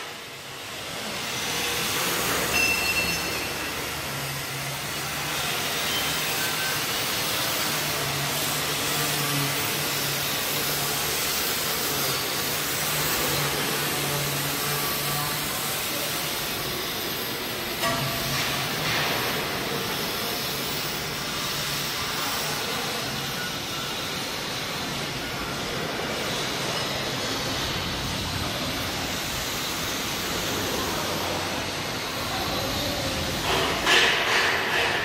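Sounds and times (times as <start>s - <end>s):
factory machinery hiss: 0.0s - 35.0s.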